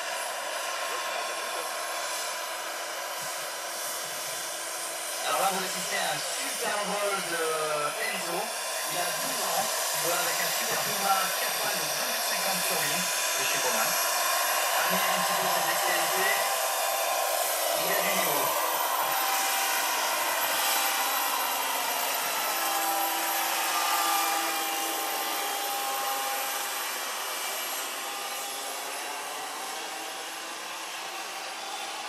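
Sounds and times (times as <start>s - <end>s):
helicopter rotor noise: 0.0s - 32.0s
turbine whine: 0.0s - 32.0s.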